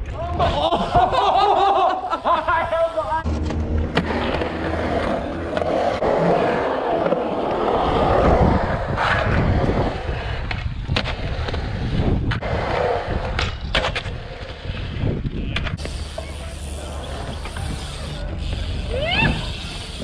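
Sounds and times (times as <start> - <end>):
skateboard wheels rolling on concrete: 0.0 - 20.0.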